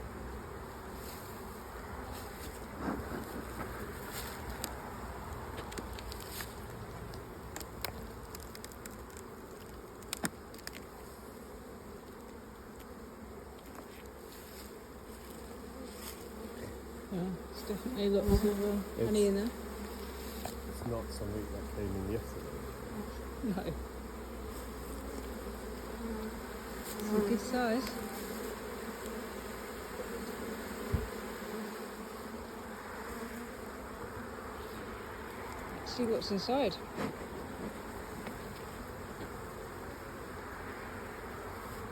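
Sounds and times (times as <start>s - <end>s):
honeybees buzzing: 0.0s - 41.9s.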